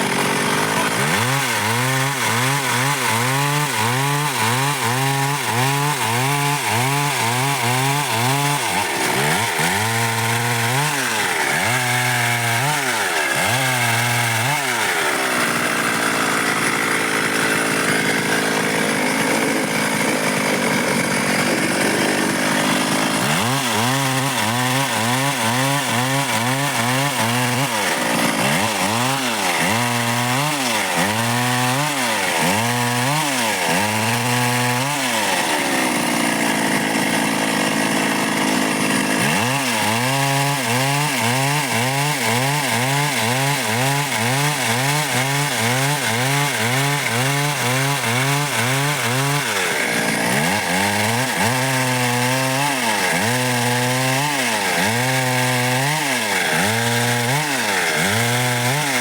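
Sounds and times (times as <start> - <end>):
chainsaw cutting dry wood: 0.0 - 59.0.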